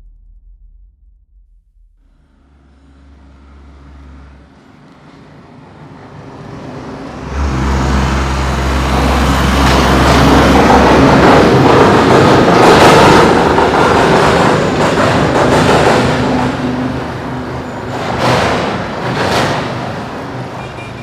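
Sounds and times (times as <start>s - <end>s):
bus engine approaching: 2.2s - 21.0s
tyre noise on road: 2.2s - 21.0s.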